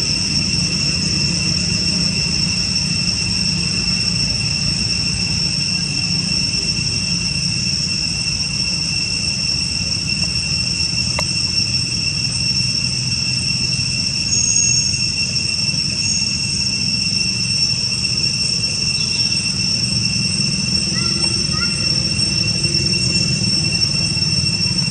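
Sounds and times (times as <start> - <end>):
insect chorus trilling: 0.0 - 24.9.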